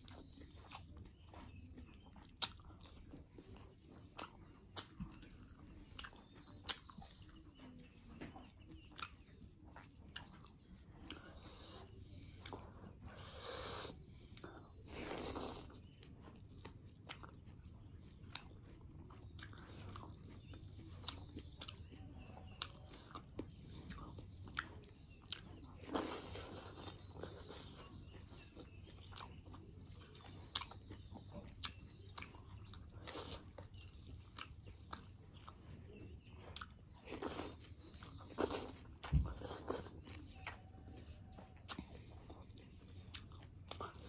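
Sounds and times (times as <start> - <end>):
chewing and lip-smacking: 0.0 - 44.0.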